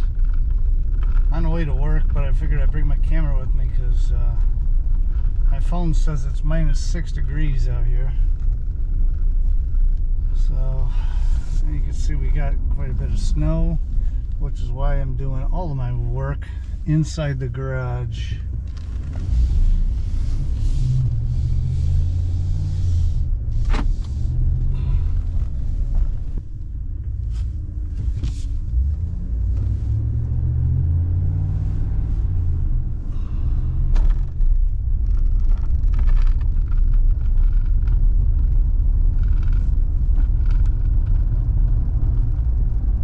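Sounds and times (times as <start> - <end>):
truck engine and road rumble: 0.0 - 43.0.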